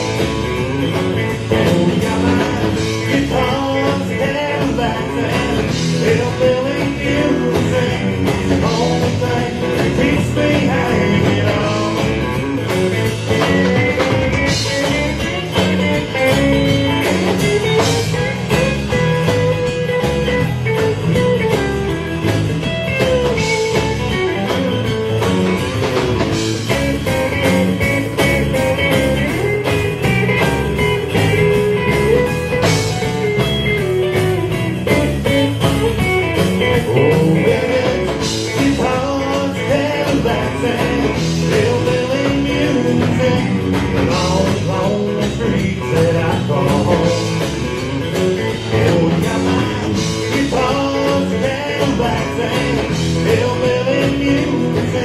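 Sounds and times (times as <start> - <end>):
live country band playing: 0.0 - 55.0.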